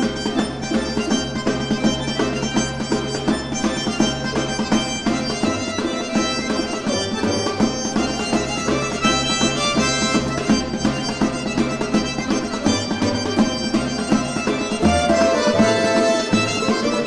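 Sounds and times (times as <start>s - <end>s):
folk instrument orchestra playing: 0.0s - 17.0s.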